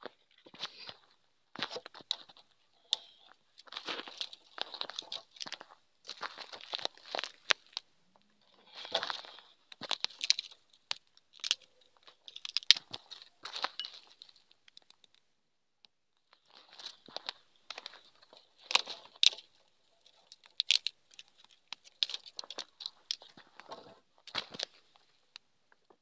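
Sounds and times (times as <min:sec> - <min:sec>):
twig fire crackling: 0:00.3 - 0:15.3, 0:16.2 - 0:26.0.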